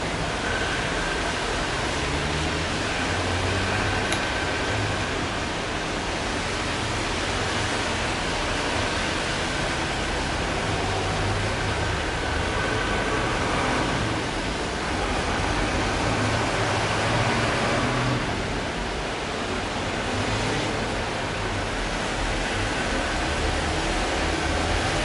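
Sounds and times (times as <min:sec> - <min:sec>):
low engine hum of vehicles: 0:00.0 - 0:25.0
tyres swishing on wet road: 0:00.0 - 0:25.0.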